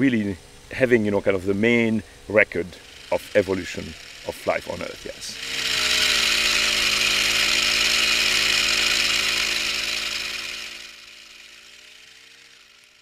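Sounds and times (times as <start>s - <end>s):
core drill grinding into rock: 0.7s - 13.0s.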